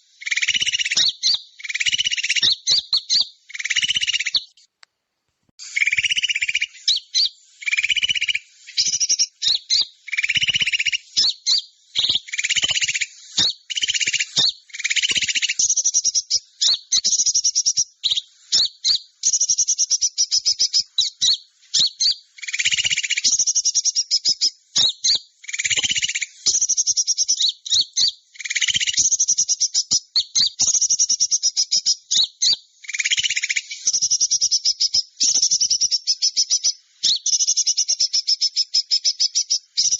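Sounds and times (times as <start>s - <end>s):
small birds buzzy trills: 0.0s - 4.7s, 5.6s - 39.9s.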